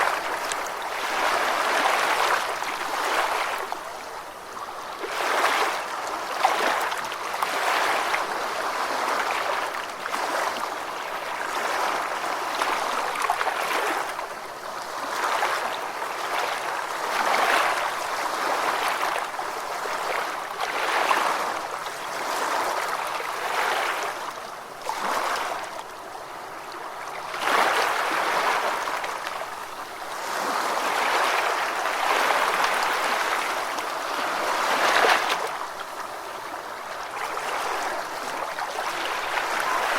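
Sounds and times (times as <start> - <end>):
ocean waves washing onto beach: 0.0 - 39.9.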